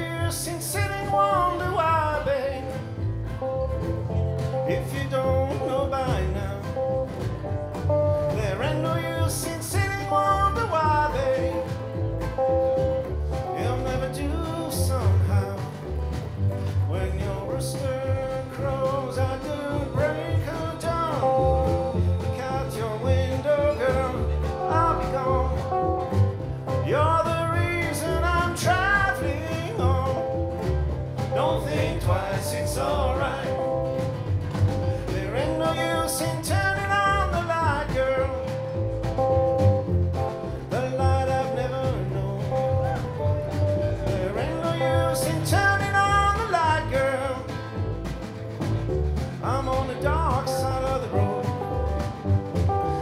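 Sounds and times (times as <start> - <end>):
acoustic guitar: 0.0 - 53.0
mandolin: 0.0 - 53.0
upright bass: 0.0 - 53.0
snare drum: 9.4 - 53.0.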